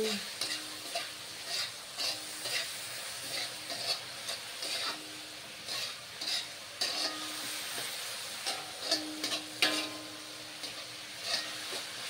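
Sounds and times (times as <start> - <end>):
meat sizzling: 0.0 - 12.0
metal spatula scraping wok: 0.0 - 12.0.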